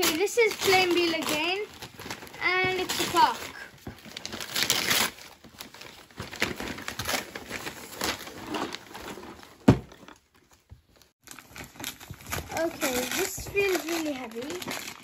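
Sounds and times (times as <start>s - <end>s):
wrapping paper tearing and rustling: 0.0s - 10.3s, 11.0s - 15.0s.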